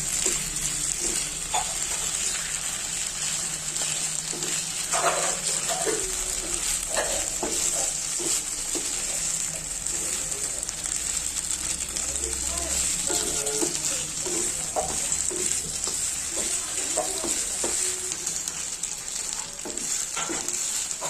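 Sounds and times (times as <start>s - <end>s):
spatula scraping a pan: 0.0s - 10.3s, 12.7s - 21.0s
food sizzling in a pan: 0.0s - 21.0s.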